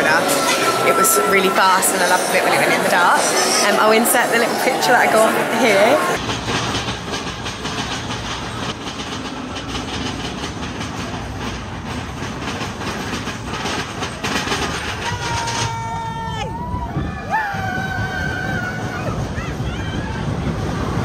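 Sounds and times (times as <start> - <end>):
roller coaster wheels clattering: 0.0 - 21.0.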